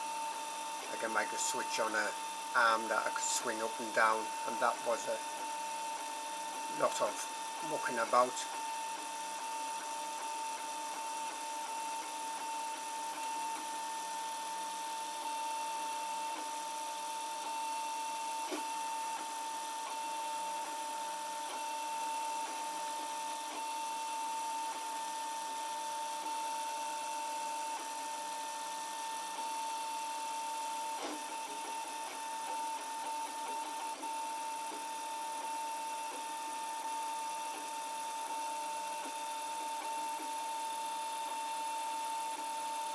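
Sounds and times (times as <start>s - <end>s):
printer high whine: 0.0s - 42.9s.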